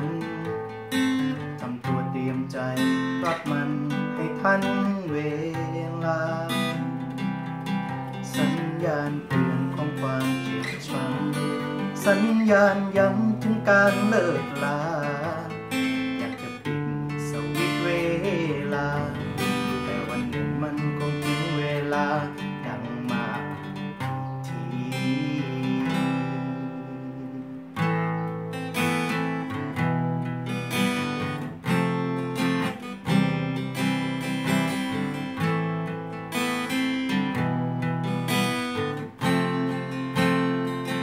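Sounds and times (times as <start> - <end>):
acoustic guitar strumming and picking: 0.0 - 41.0.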